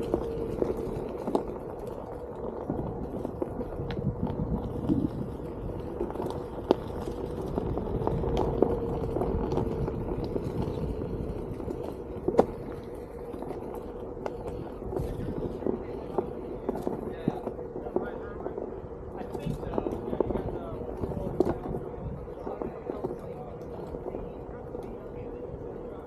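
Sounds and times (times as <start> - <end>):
clicks and knocks over bumps: 0.0 - 25.8.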